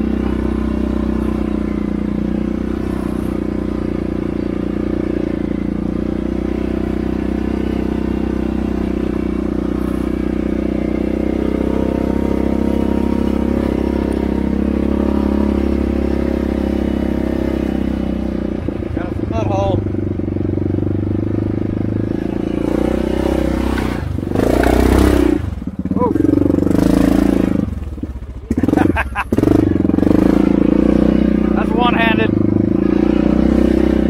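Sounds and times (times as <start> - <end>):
atv engine running steadily: 0.0 - 34.0.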